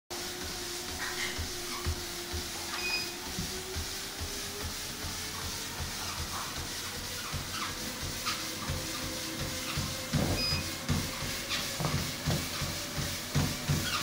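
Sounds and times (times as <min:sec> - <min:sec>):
treadmill motor whine: 0:00.1 - 0:14.0
feet thudding on treadmill belt: 0:00.2 - 0:14.0.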